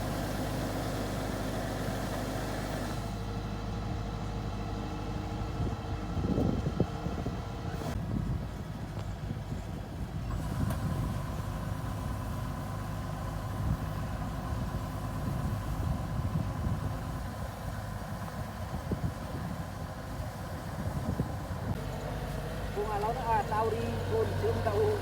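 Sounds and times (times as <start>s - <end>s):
farm machine engine running: 0.0s - 25.0s.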